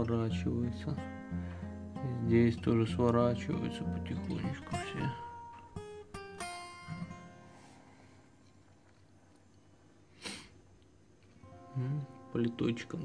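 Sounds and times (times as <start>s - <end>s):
acoustic guitar music: 0.0s - 9.0s, 11.1s - 13.0s.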